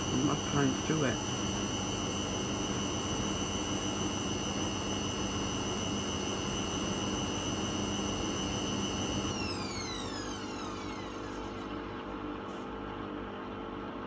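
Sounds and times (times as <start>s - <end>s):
washing machine spin cycle: 0.0s - 14.0s.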